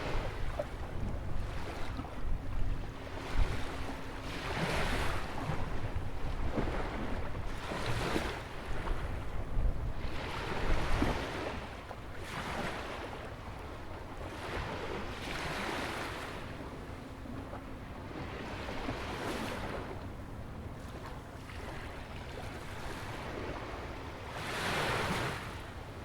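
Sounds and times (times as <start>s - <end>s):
ocean waves breaking: 0.0s - 26.0s
wind rumble on microphone: 0.0s - 26.0s.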